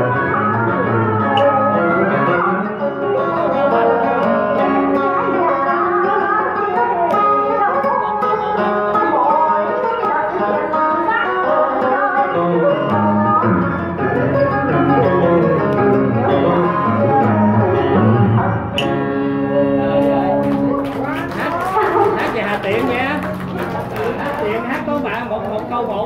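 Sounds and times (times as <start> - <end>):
woman singing into a microphone: 0.0 - 21.9
amplified plucked string backing: 0.0 - 26.0.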